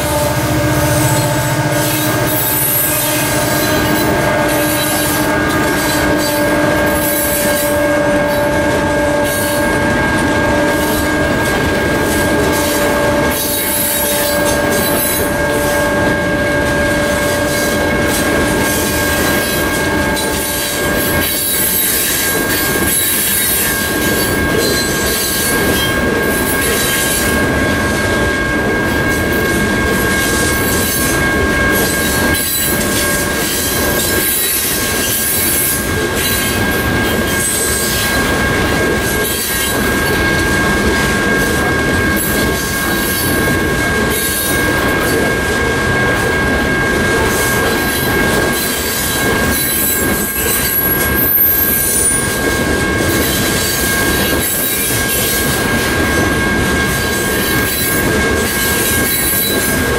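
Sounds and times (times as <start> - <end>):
high wheel squeal: 0.0 - 55.8, 56.5 - 59.8
train wheels rumbling and knocking: 0.0 - 59.9.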